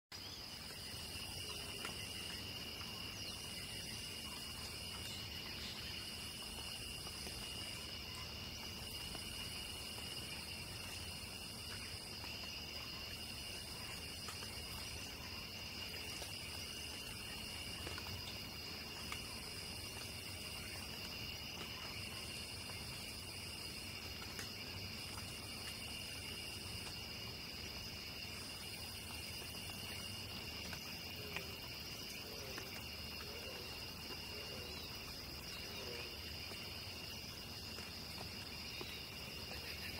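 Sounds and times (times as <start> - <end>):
crickets trilling: 0.1 - 39.9.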